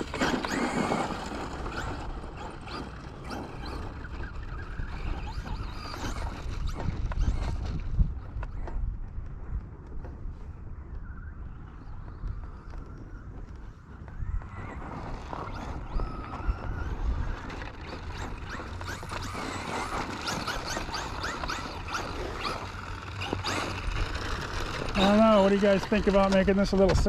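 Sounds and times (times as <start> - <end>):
electric motor whining: 0.0 - 8.8, 13.9 - 27.0.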